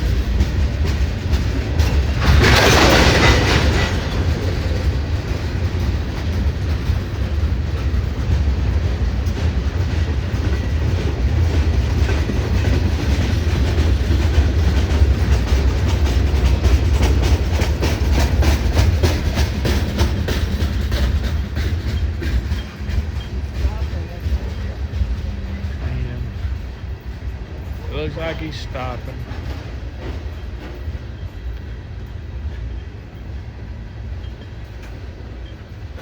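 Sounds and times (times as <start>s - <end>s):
freight train rumbling past: 0.0s - 36.0s
wheels clicking over rail joints: 0.0s - 36.0s.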